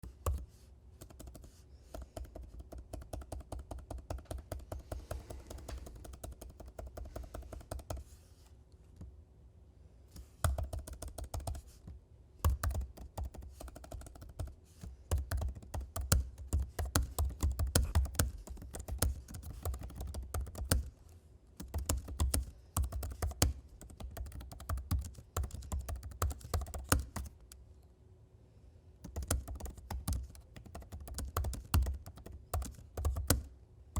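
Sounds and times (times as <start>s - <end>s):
typing on computer keyboard: 0.0s - 8.1s, 10.2s - 11.7s, 12.4s - 21.0s, 21.6s - 27.6s, 29.0s - 33.6s.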